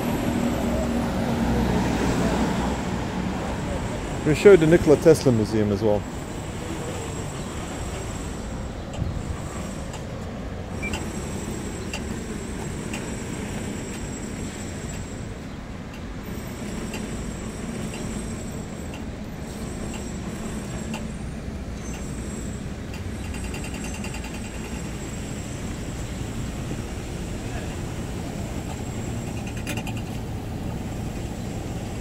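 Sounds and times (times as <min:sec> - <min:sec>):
rumble of passing vehicles: 0:00.0 - 0:32.0.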